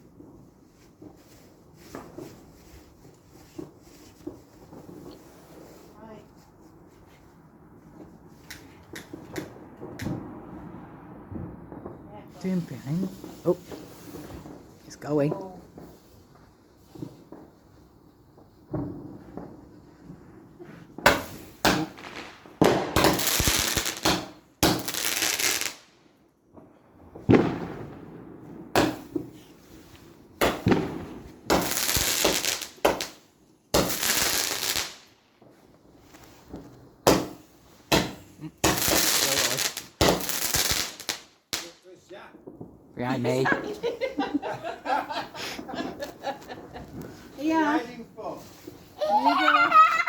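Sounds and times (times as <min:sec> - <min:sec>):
fireworks banging: 0:00.0 - 0:50.0
fireworks hissing and crackling: 0:00.0 - 0:50.0.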